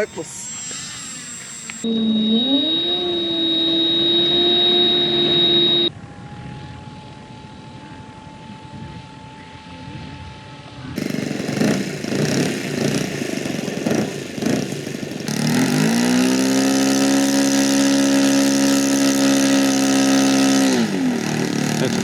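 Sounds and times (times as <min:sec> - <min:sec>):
model plane engine revving: 0:00.0 - 0:22.0.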